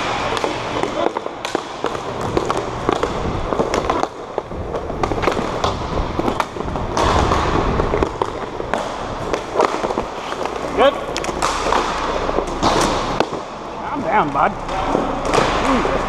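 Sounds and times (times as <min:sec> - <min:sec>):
skate wheels rolling: 0:00.0 - 0:13.8
sticks and puck clacking: 0:00.0 - 0:16.0.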